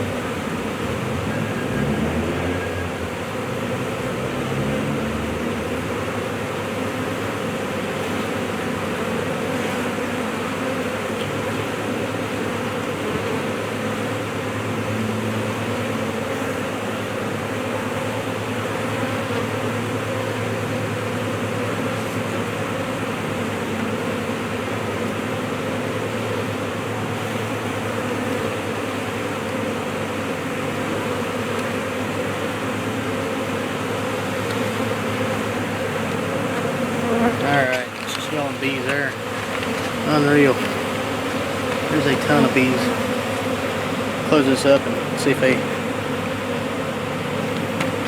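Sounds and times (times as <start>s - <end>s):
swarm of bees buzzing: 0.0s - 48.0s.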